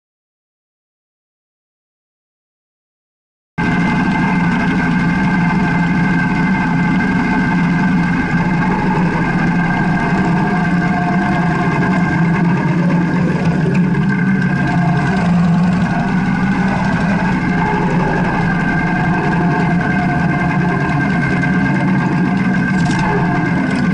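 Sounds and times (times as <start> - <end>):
motorcycle engine running steadily: 3.6 - 23.9.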